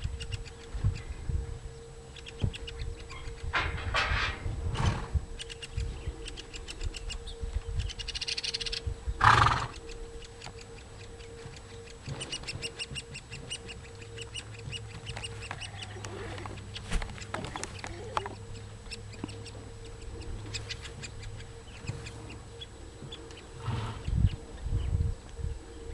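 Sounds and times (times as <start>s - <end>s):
woodpecker nestlings chattering: 0.0s - 3.9s, 5.3s - 9.0s, 9.6s - 25.0s.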